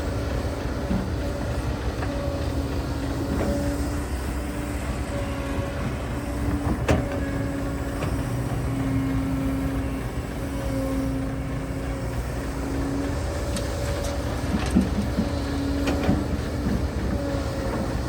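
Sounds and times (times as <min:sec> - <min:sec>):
diesel engine rumble: 0:00.0 - 0:18.0.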